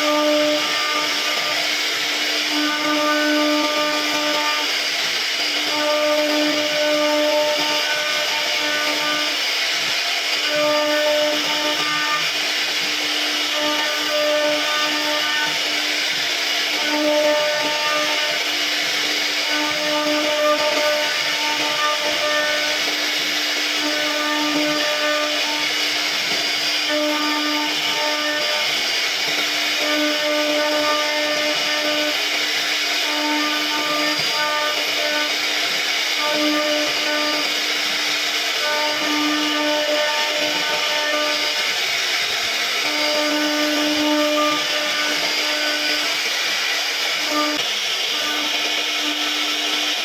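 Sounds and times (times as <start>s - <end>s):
router spindle carving wood: 0.0s - 50.0s.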